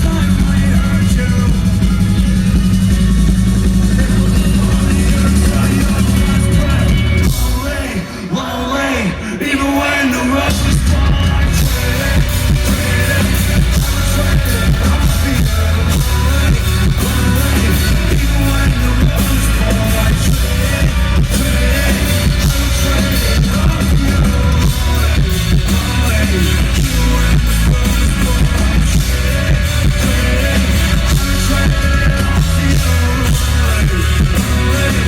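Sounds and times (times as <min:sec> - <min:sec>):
heavy bass and drums: 0:00.0 - 0:08.2, 0:10.1 - 0:35.0
person singing: 0:00.0 - 0:35.0
rock band playing: 0:00.0 - 0:35.0.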